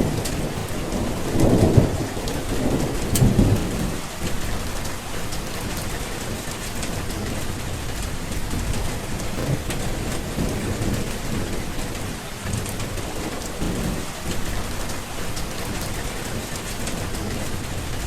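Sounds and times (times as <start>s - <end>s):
low rumbling thunder: 0.0s - 18.0s
steady rain: 0.0s - 18.0s.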